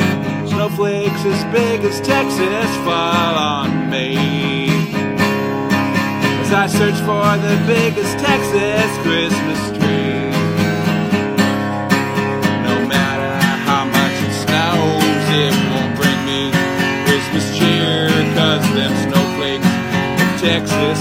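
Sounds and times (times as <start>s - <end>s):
man singing: 0.0s - 5.3s, 6.0s - 11.2s, 12.4s - 21.0s
acoustic guitar strumming: 0.0s - 21.0s.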